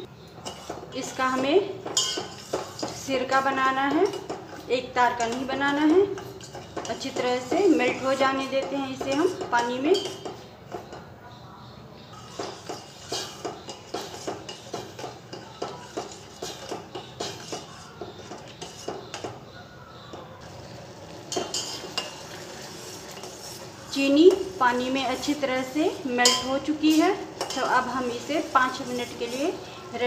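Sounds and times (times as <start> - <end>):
metal spoon clinking in saucepan: 0.4 - 11.0, 12.1 - 29.6.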